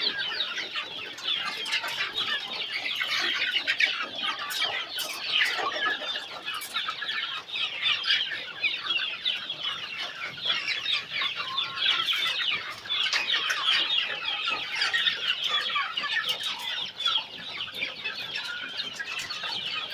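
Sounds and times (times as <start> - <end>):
young chickens clucking: 0.0 - 19.9.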